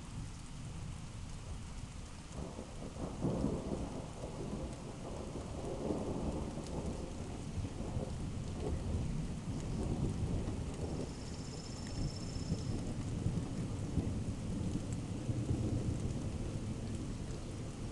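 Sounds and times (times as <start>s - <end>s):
steady rain: 0.0s - 17.9s
thunder rumbling: 2.4s - 17.9s.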